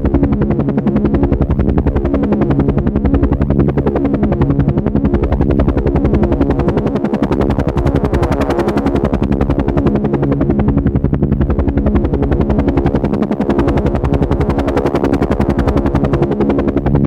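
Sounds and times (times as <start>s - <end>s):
helicopter engine hum: 0.0s - 17.0s
helicopter rotor blades beating: 0.0s - 17.0s.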